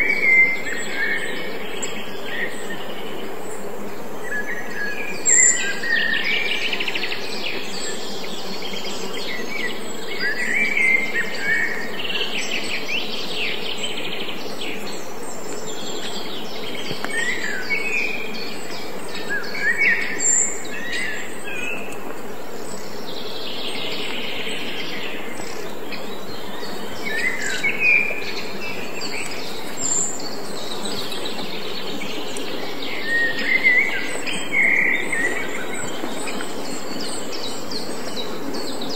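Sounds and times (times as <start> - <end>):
birds chirping: 0.0 - 38.9
steady hum and hiss: 0.0 - 38.9.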